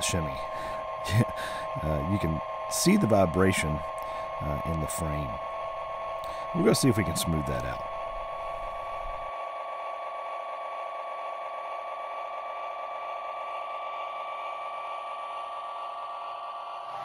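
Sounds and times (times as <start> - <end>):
model train locomotive humming: 0.0 - 17.0.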